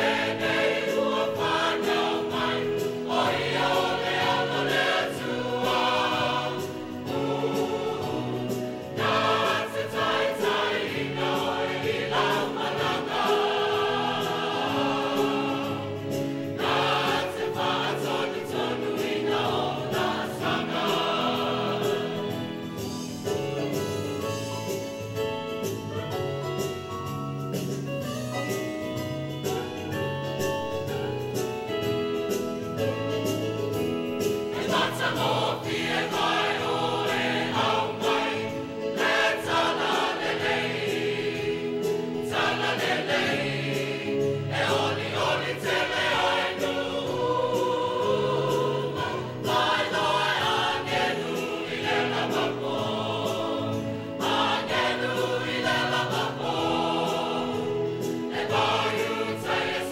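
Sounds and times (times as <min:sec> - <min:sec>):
mixed choir singing: 0:00.0 - 0:26.7, 0:29.4 - 0:59.9.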